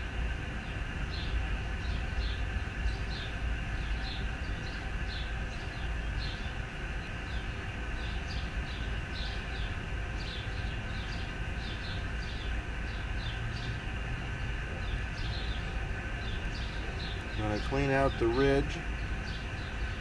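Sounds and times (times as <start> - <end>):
low outdoor rumble: 0.0 - 20.0
bird chirping: 1.1 - 20.0.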